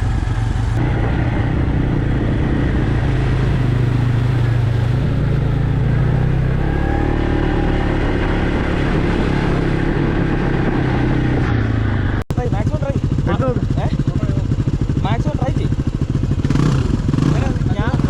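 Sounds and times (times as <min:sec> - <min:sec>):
off-road vehicle engine running: 0:00.0 - 0:18.0.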